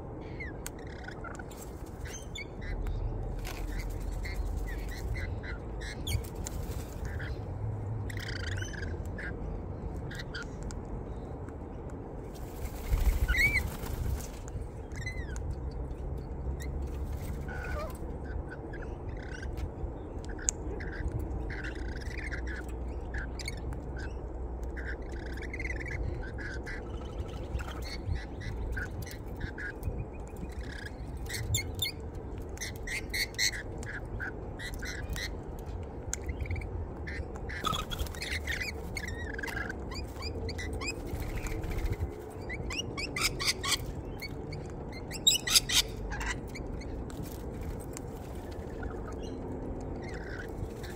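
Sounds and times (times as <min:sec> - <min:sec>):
birds chirping and squawking: 0:00.0 - 0:50.9.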